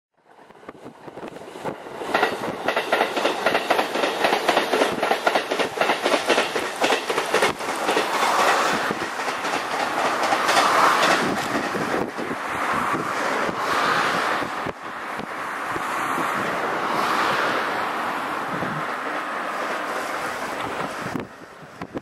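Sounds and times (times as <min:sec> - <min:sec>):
train rushing: 0:00.2 - 0:22.0
train wheels clicking over rail joints: 0:00.3 - 0:16.3, 0:18.8 - 0:22.0.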